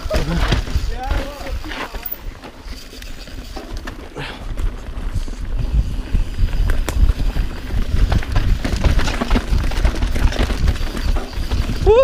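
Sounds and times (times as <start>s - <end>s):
bike clicks and rattles: 0.0s - 12.0s
bike tyres rumbling over dirt: 0.0s - 12.0s.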